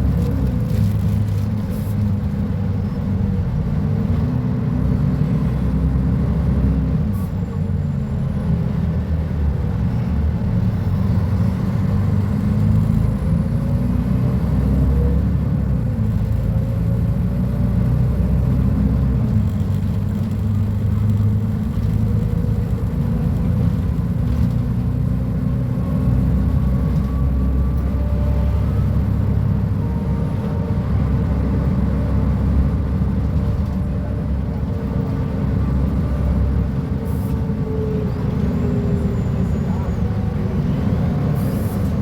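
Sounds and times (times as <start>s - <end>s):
bus diesel engine running: 0.0s - 42.0s.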